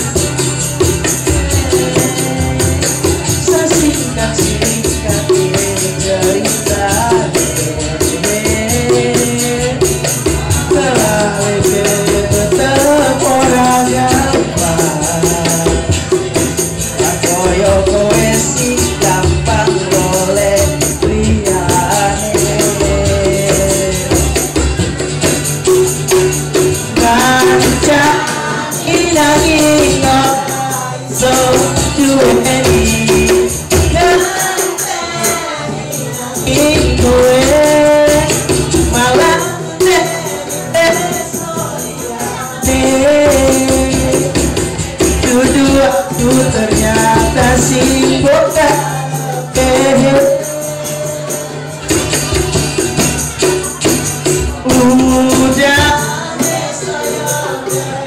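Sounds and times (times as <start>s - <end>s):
man singing into microphone: 0.0s - 24.8s, 26.2s - 58.0s
percussion with high shimmer: 0.0s - 58.0s
strummed acoustic guitar: 0.0s - 58.0s.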